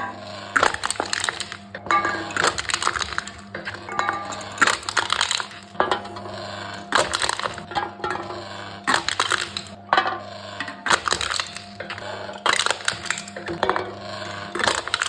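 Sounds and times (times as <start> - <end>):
cans crushed by machine: 0.0 - 15.0.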